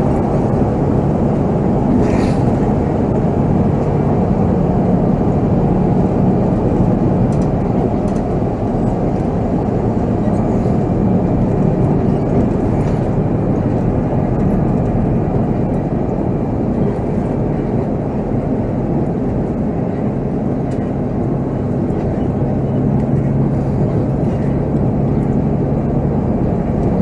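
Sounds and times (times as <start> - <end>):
diesel bus engine running: 0.0 - 27.0
road noise: 0.0 - 27.0.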